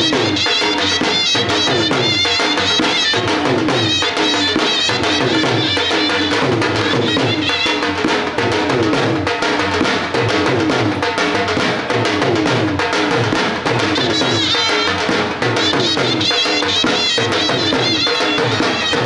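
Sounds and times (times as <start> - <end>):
dhol drumming: 0.0 - 19.0.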